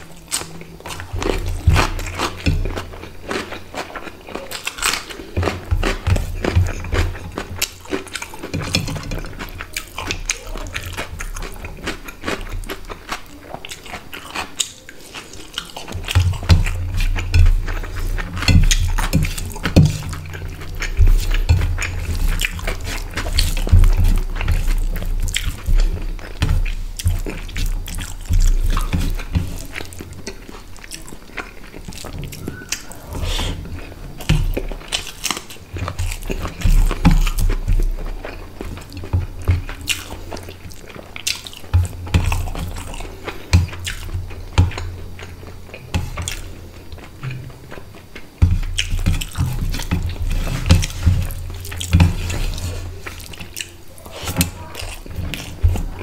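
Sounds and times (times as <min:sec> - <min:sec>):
fingers mixing rice on steel plate: 0:00.0 - 0:56.0
wet chewing and lip smacks: 0:00.0 - 0:56.0.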